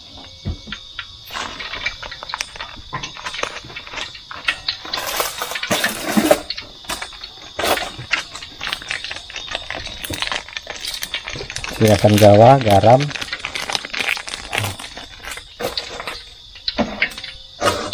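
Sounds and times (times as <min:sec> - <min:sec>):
crickets chirring: 0:00.0 - 0:17.9
salt shaken from bag: 0:01.3 - 0:16.3
plastic packets crinkling: 0:01.3 - 0:16.6.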